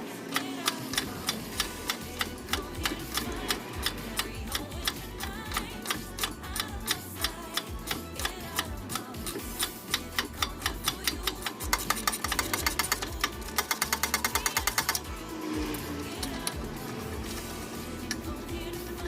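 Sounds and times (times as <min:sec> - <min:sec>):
ratchet wrench clicking: 0:00.3 - 0:19.0.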